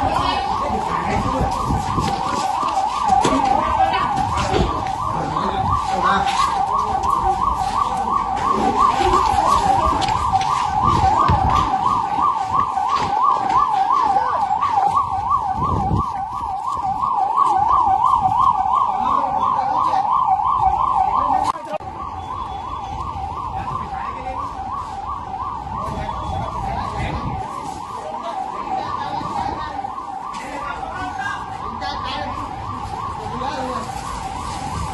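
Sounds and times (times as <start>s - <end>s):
emergency siren yelping: 0.0s - 34.9s.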